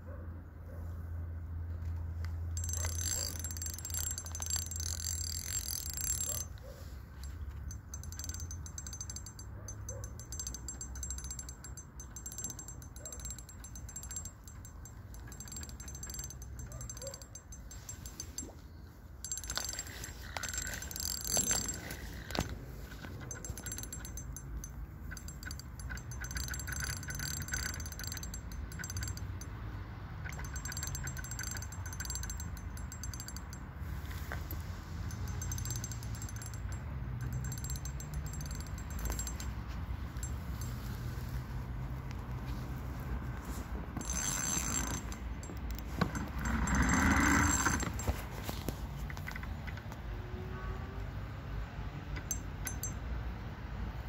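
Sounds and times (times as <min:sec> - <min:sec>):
fishing reel ratcheting: 0:02.5 - 0:42.4, 0:43.3 - 0:49.9, 0:52.2 - 0:53.0.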